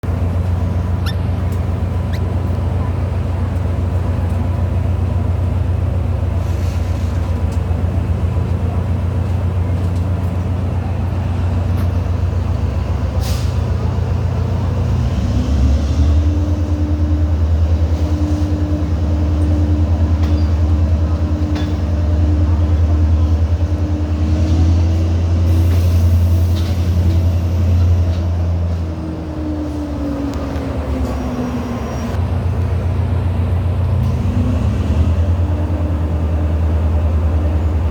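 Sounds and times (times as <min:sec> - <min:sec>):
train diesel engine revving: 0:00.1 - 0:37.9.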